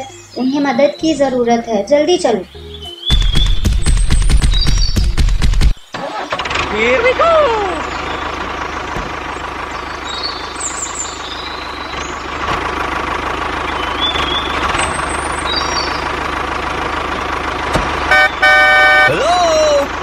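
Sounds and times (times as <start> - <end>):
tractor engine running: 3.1 - 20.0.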